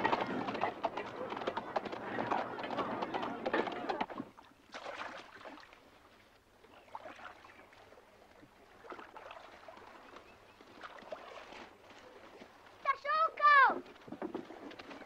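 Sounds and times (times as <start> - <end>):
paddle splashing through water: 0.0 - 15.0.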